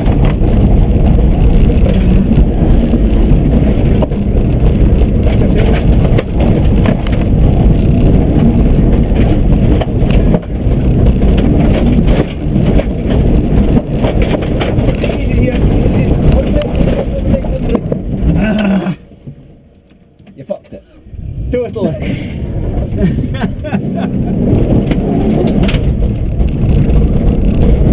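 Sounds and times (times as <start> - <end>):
rally car engine and tyres: 0.0 - 27.9.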